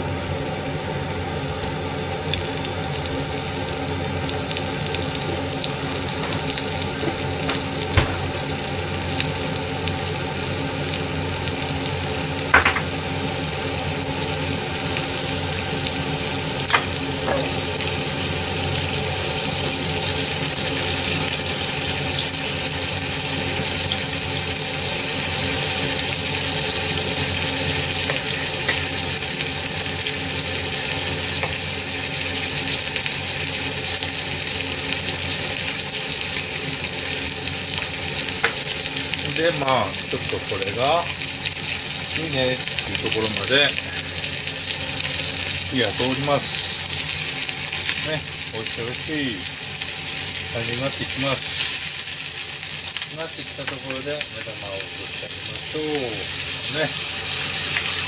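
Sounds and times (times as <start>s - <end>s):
meat sizzling in a frying pan: 0.0s - 58.0s.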